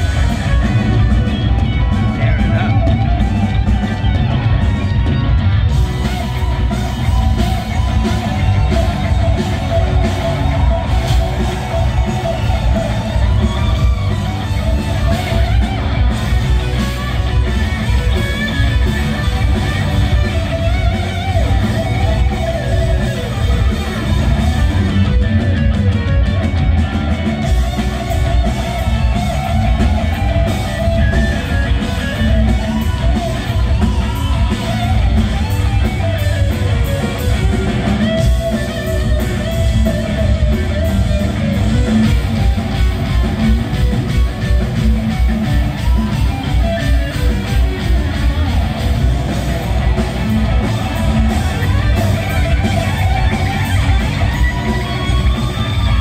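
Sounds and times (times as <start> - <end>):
bass guitar: 0.0 - 56.0
drums: 0.0 - 56.0
electric guitar lead with bending notes: 0.0 - 56.0.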